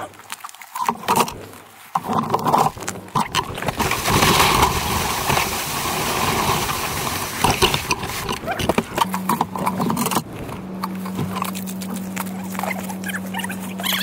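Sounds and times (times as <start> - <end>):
off-road vehicle engine running: 2.0 - 14.0.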